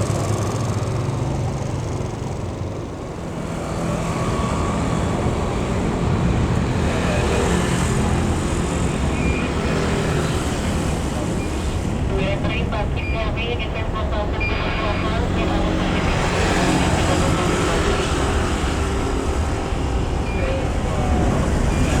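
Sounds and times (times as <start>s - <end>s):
loud engine rumble: 0.0s - 22.0s.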